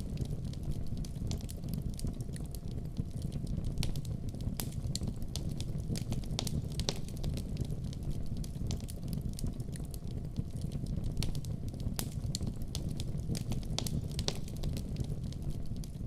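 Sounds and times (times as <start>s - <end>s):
fire flames rumbling: 0.0s - 16.0s
wood fire popping and crackling: 0.0s - 16.0s.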